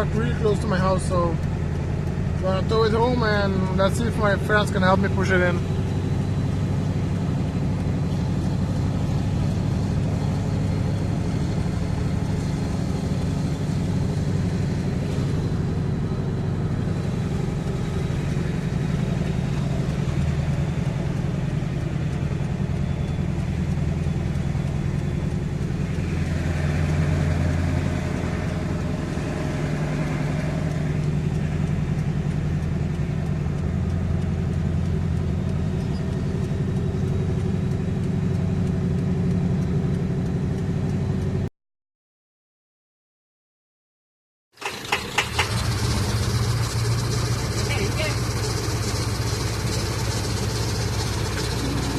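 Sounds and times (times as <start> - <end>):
vehicle engine humming: 0.0 - 41.5, 44.6 - 51.9.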